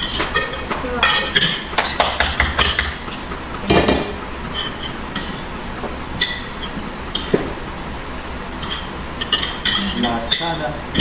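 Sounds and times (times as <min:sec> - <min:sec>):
utensils clinking against plates: 0:00.0 - 0:11.0.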